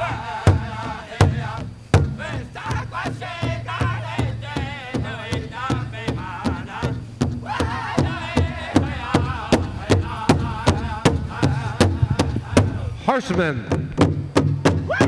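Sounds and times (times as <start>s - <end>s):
group singing in high unison: 0.0s - 13.0s
fast steady drum beat: 0.0s - 15.0s.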